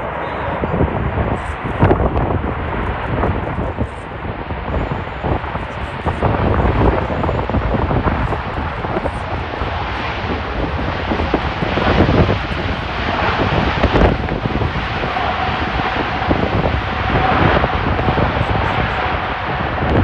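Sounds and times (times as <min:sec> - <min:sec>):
jet engine roar: 0:00.0 - 0:20.0
steady whine: 0:00.0 - 0:20.0
wind gusting on microphone: 0:00.0 - 0:20.0.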